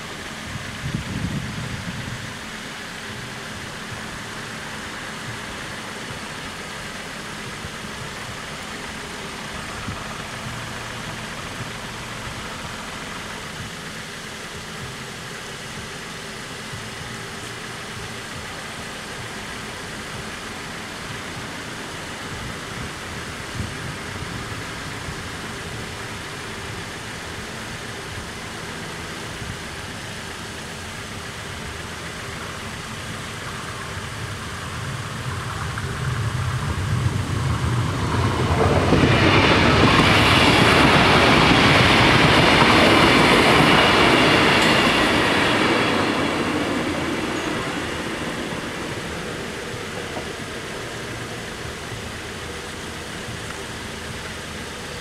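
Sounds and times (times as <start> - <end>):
diesel train engine passing: 0.0 - 55.0.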